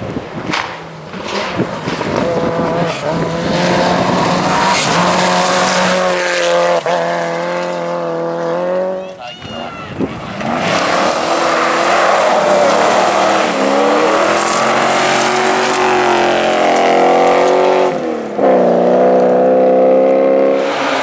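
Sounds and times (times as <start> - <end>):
rally car engine at high revs: 0.0 - 9.1, 10.1 - 21.0.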